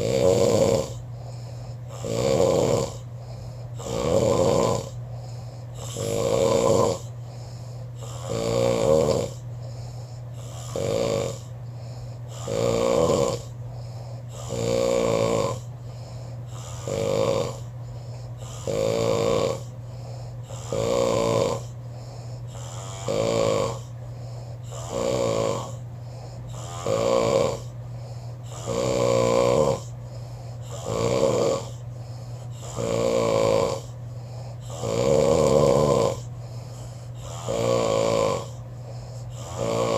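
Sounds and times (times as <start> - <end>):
man snoring: 0.0 - 39.9
steady low hum: 0.0 - 39.9.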